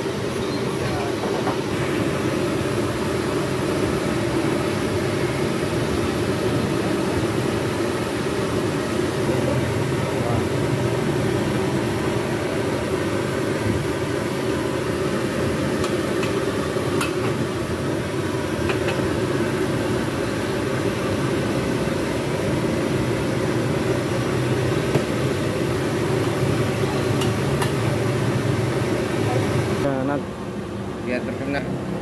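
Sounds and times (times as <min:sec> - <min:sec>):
gas burner roaring: 0:00.0 - 0:32.0.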